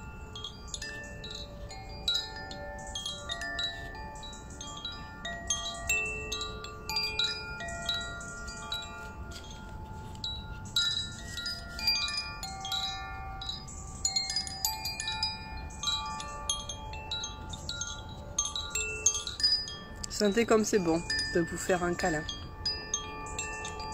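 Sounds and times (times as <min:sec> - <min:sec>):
tube wind chime ringing: 0:00.0 - 0:23.9.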